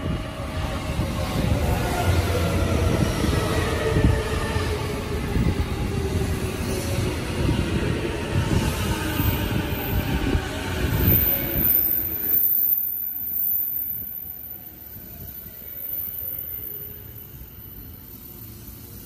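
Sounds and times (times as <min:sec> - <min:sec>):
train wheels rumbling on rails: 0:00.0 - 0:16.3.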